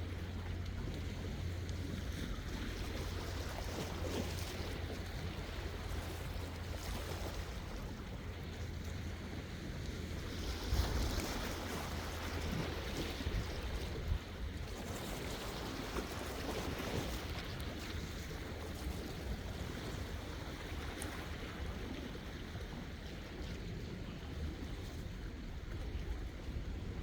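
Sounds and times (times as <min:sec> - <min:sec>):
sea waves washing in: 0:00.0 - 0:27.0
wind rumbling on microphone: 0:00.0 - 0:27.0.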